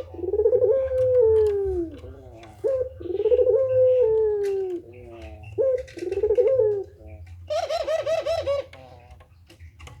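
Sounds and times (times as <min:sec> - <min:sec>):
dove cooing: 0:00.0 - 0:09.0.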